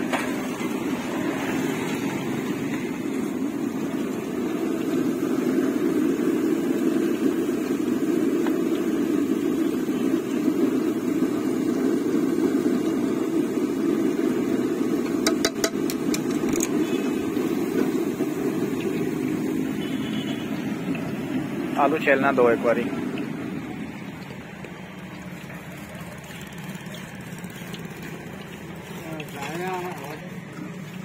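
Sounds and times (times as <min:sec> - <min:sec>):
potatoes deep-frying in bubbling oil: 0:00.0 - 0:31.0.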